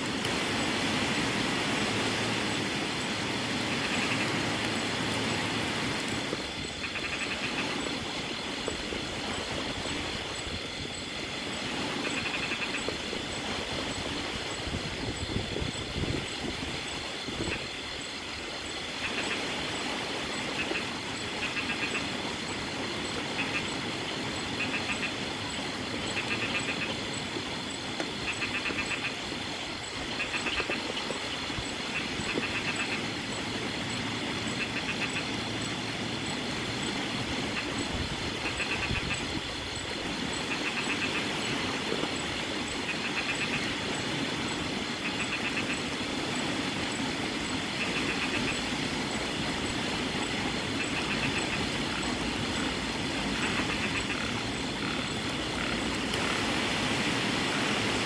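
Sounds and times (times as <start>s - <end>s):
steady rain: 0.0s - 58.0s
wind gusting through palm fronds: 0.0s - 58.0s.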